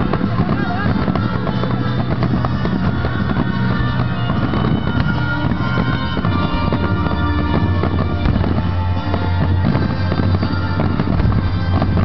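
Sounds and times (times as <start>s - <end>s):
loud music with sustained tones: 0.0s - 12.0s.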